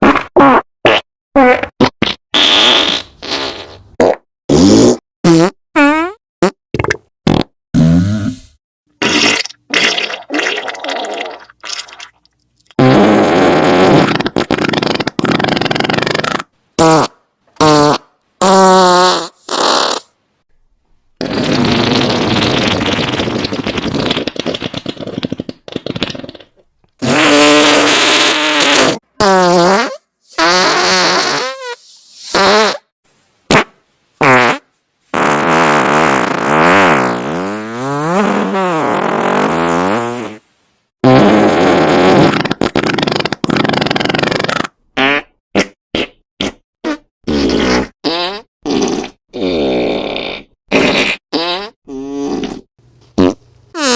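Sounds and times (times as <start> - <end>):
fart sound effects: 0.0 - 12.0, 12.8 - 20.2, 21.2 - 32.9, 33.5 - 40.4, 41.0 - 53.9.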